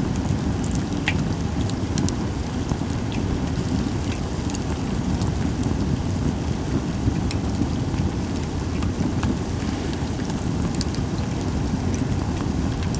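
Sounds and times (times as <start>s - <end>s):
campfire flames rushing: 0.1s - 12.9s
fire crackling and popping: 0.1s - 12.9s.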